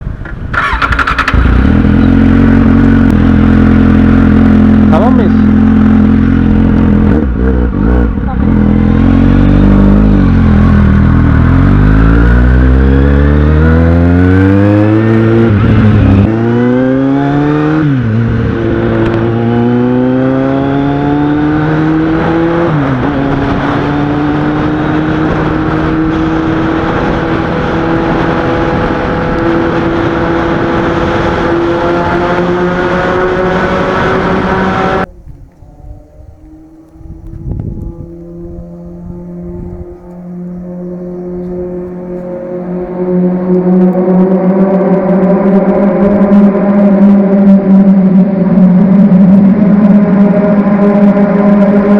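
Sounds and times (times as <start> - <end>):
motorcycle engine accelerating: 0.3 - 51.9.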